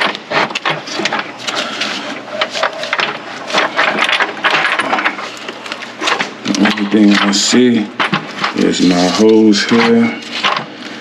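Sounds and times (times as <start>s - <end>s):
hard parts clicking and rattling: 0.0s - 11.0s.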